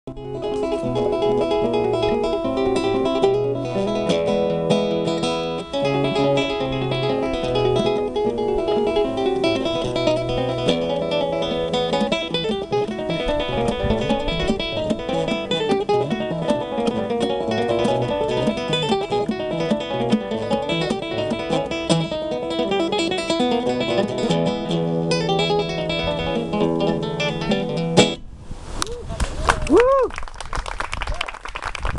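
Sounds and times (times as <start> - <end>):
acoustic guitar music: 0.0 - 28.4.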